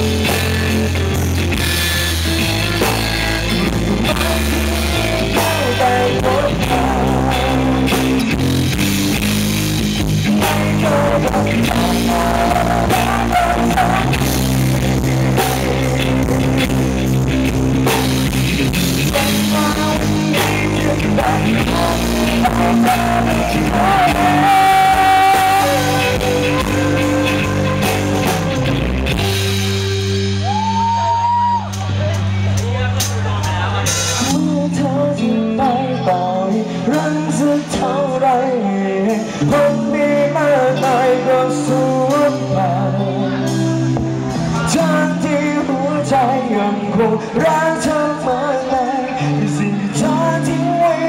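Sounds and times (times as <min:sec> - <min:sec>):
live rock band playing: 0:00.0 - 0:51.0
sustained lead melody: 0:00.0 - 0:51.0.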